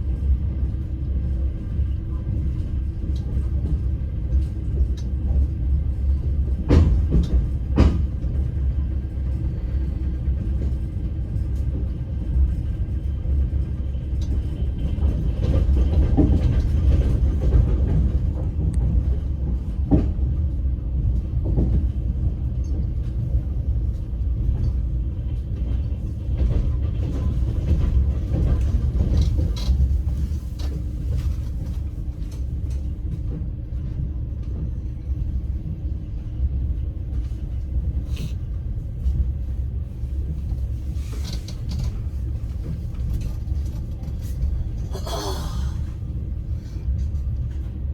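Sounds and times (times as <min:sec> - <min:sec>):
train running gear rumble: 0:00.0 - 0:47.9
wheels clattering on rails: 0:02.3 - 0:38.0, 0:40.0 - 0:45.2.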